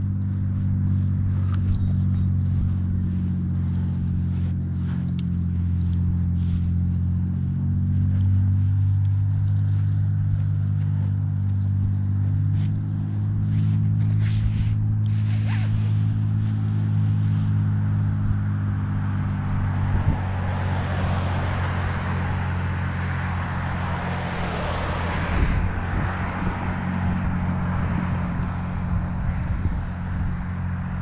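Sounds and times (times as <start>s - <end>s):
faint rustling: 0.0s - 30.8s
low mechanical hum: 0.0s - 31.0s.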